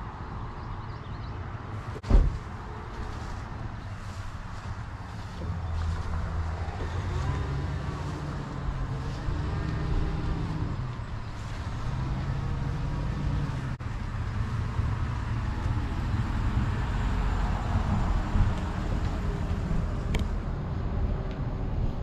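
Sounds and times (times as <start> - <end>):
vehicle engine drone: 1.7 - 22.0.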